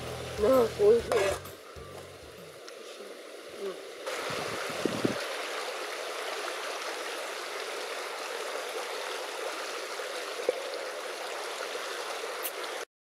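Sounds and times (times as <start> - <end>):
flowing water rushing: 0.0 - 12.9.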